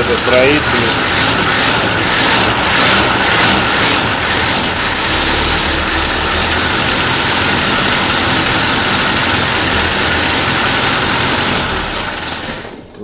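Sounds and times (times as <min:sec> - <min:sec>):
engine running rough: 0:00.0 - 0:12.9.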